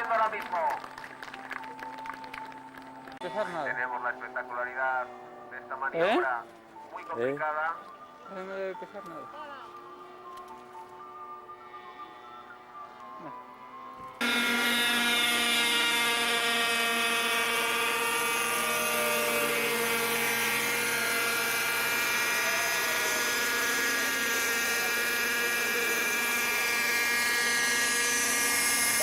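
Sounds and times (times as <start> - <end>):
model aircraft engine whining: 0.0 - 29.0.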